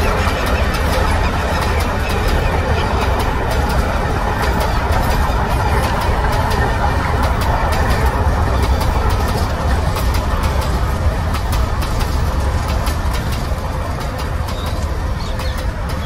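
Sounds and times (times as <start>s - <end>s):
train coaches rumbling on track: 0.0s - 16.0s
wheel clicks on rails: 0.0s - 16.0s.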